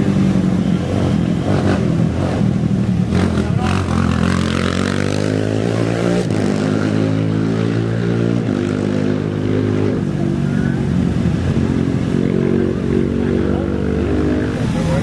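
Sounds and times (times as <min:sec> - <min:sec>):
race vehicle engines running: 0:00.0 - 0:15.0.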